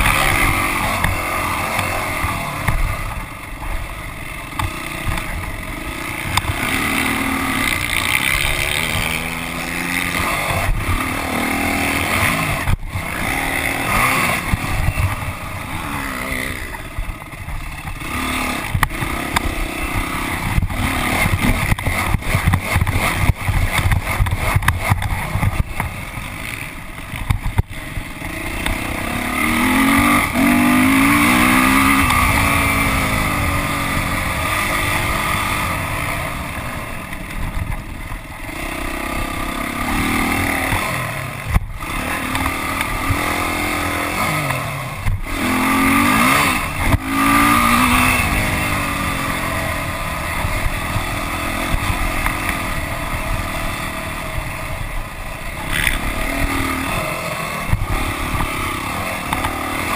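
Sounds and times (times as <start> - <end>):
dirt bike engine revving: 0.0 - 59.9
rushing wind: 0.0 - 59.9.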